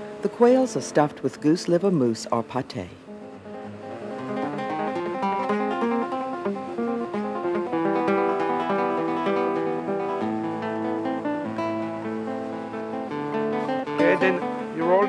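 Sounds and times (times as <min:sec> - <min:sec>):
plucked string melody: 0:00.0 - 0:15.0.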